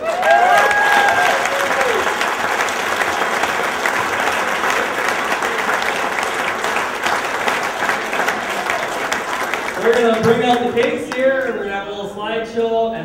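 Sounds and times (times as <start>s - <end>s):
people cheering: 0.0s - 11.7s
crowd applauding: 0.0s - 11.8s.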